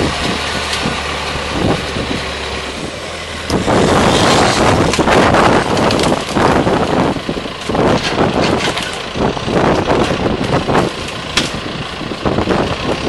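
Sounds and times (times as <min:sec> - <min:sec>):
tractor diesel engine running: 0:00.0 - 0:13.0
branches scraping and crackling: 0:00.1 - 0:11.6.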